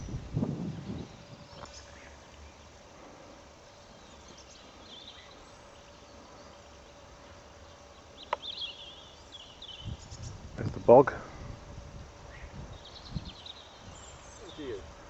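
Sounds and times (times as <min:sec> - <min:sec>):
faint open-air hiss: 0:00.0 - 0:15.0.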